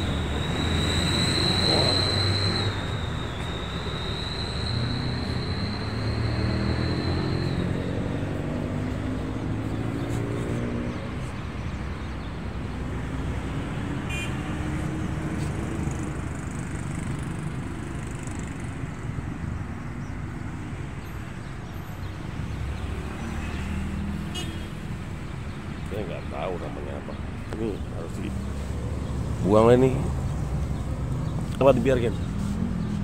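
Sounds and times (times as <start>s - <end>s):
vehicle engines passing: 0.0s - 33.0s.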